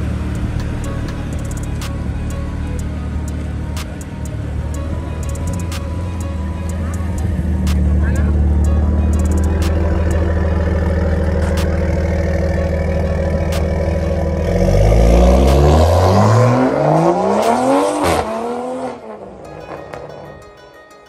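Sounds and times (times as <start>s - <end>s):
car exhaust rumble accelerating: 0.0s - 20.3s
background music: 0.0s - 21.0s.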